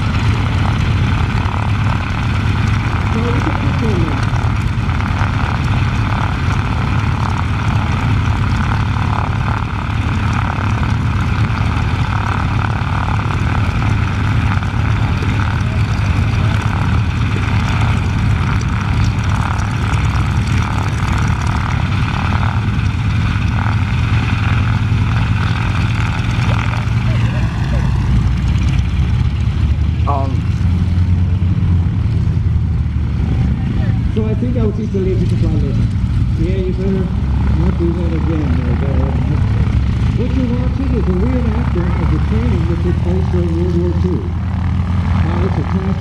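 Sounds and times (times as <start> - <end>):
radial aircraft engines droning: 0.0 - 46.0.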